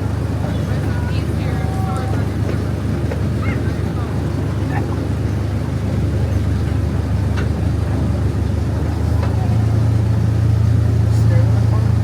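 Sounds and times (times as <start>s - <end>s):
ride train rumbling: 0.0s - 12.0s.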